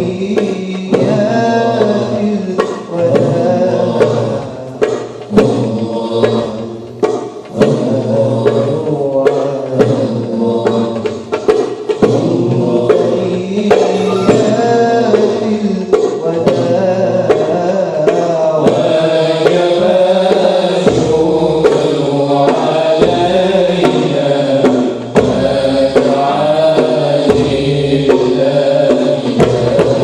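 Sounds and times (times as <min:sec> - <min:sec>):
voices chanting a devotional song: 0:00.0 - 0:30.0.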